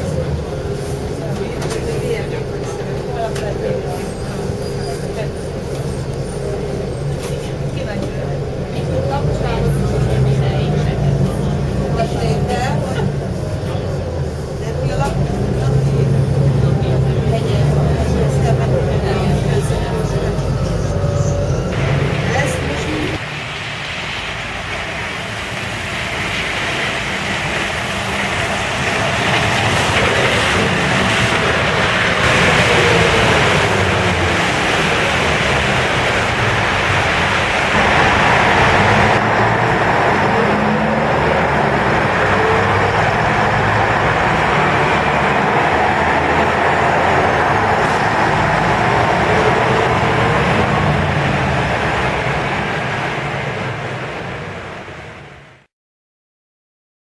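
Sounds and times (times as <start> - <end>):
buses driving past: 0.0 - 55.7
road noise: 0.0 - 55.7.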